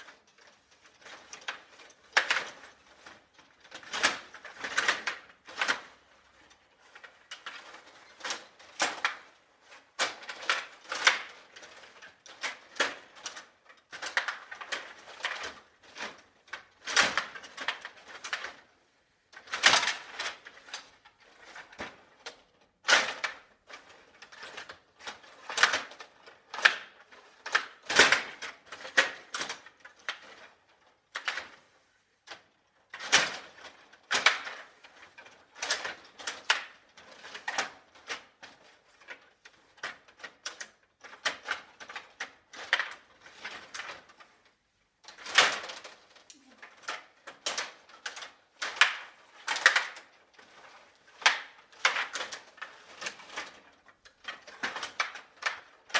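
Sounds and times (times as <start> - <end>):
plastic puck and players clacking: 0.0 - 18.7, 19.4 - 31.6, 32.2 - 55.9
table hockey rods rattling: 0.0 - 18.7, 19.4 - 55.9.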